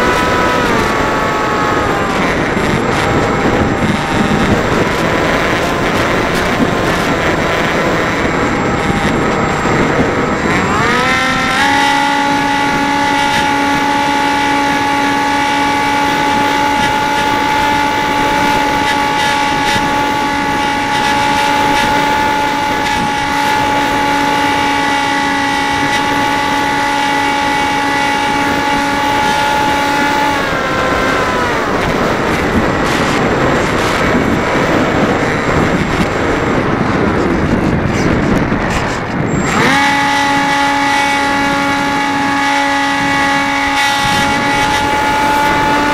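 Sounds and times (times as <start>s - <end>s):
model plane motor whining: 0.0s - 45.9s
wind buffeting microphone: 0.0s - 45.9s.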